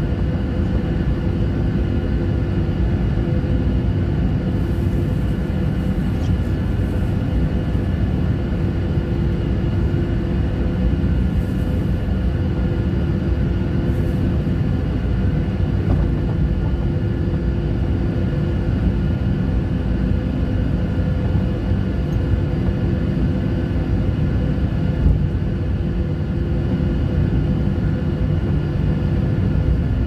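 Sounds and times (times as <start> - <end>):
airliner cabin engine rumble: 0.0 - 30.0
faint steady whine: 0.0 - 30.0.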